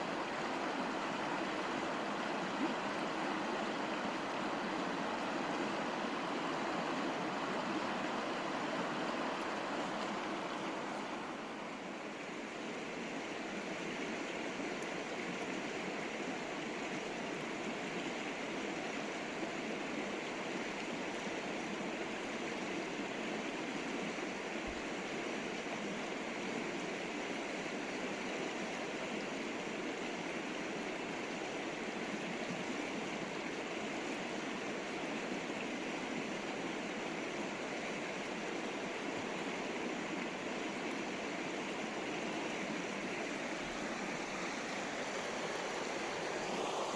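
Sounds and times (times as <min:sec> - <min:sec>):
river flowing over rocks: 0:00.0 - 0:46.9.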